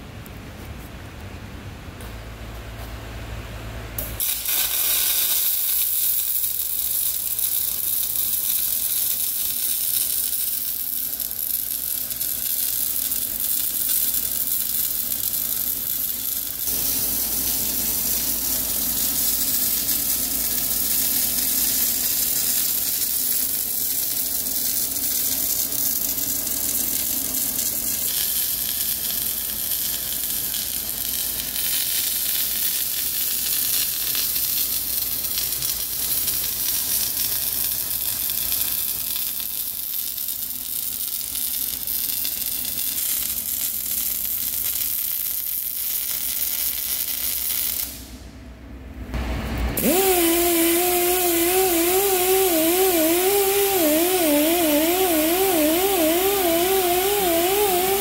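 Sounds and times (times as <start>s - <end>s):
welding arc crackling: 4.0s - 48.1s, 49.1s - 58.0s.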